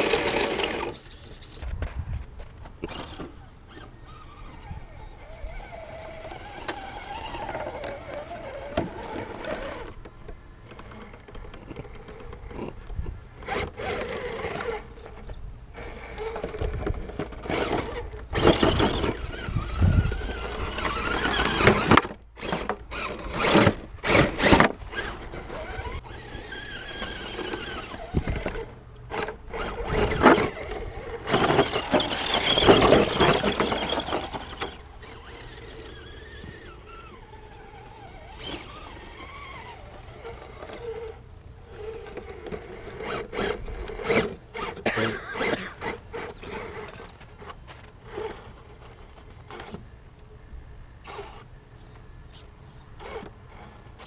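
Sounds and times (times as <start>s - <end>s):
rc car electric motor whining: 0.0s - 1.7s, 2.8s - 54.0s.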